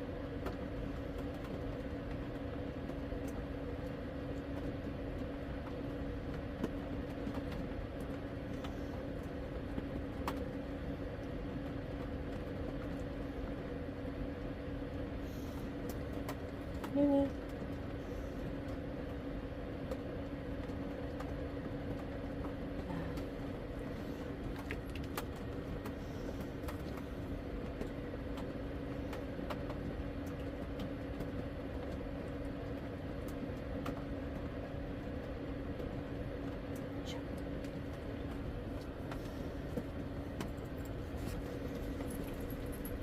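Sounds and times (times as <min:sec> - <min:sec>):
fan humming: 0:00.0 - 0:43.0.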